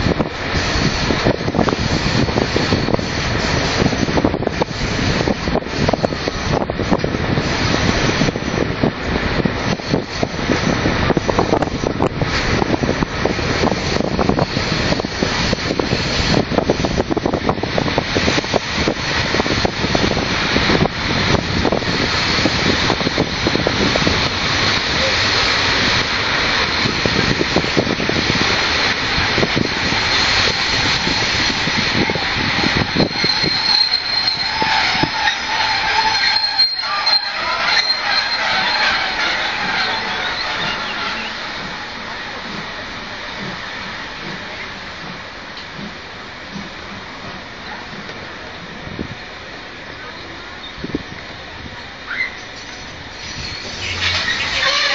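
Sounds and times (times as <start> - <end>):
train rumbling along track: 0.0 - 54.9
wheels clattering on rails: 0.0 - 54.9.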